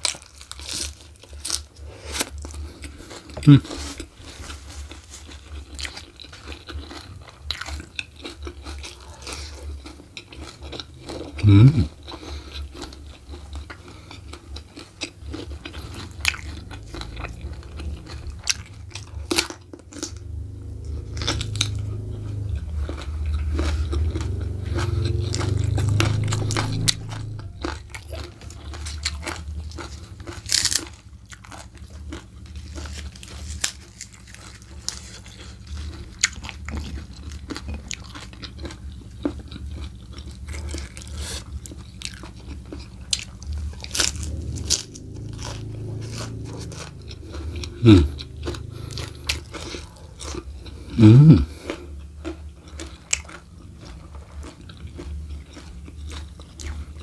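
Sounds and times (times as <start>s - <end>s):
wet chewing and crunchy bites: 0.0s - 57.0s
low hum: 0.1s - 57.0s.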